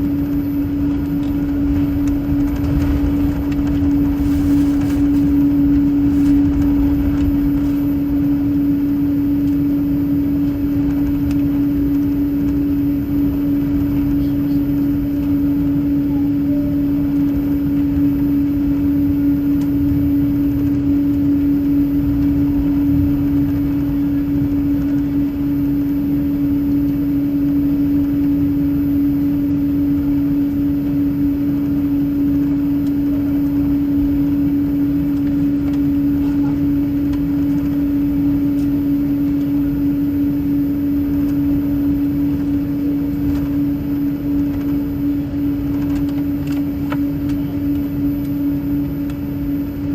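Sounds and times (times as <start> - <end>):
jet cabin hum: 0.0 - 49.9.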